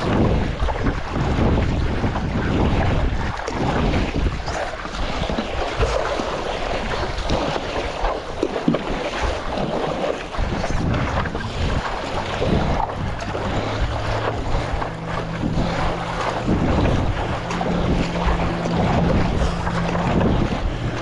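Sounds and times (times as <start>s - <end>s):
water splashing around a paddleboard: 0.0s - 21.0s
wind buffeting microphone: 0.0s - 21.0s.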